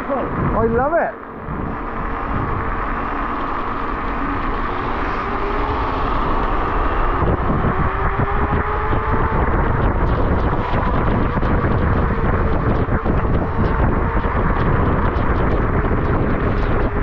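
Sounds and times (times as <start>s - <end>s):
electric motor whine: 0.0s - 17.0s
low rumble: 0.0s - 17.0s
wind: 0.0s - 17.0s.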